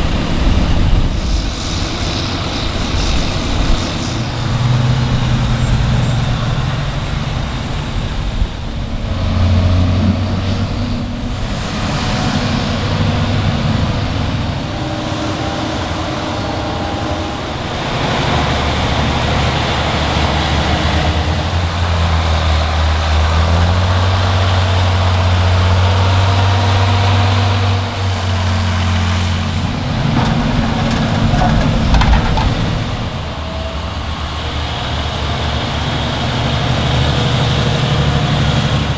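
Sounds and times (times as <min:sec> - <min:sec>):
tractor diesel engines running: 0:00.0 - 0:38.9.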